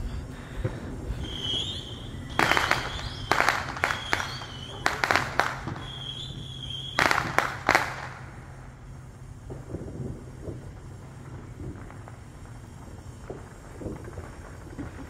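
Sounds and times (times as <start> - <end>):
fireworks crackling and popping: 0.0 - 15.0
fireworks whistling: 0.0 - 15.0.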